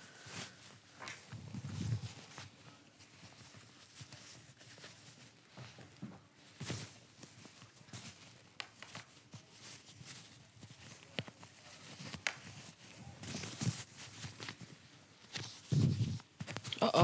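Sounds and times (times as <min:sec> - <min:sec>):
clothing rustling on lapel microphone: 0:00.0 - 0:17.0.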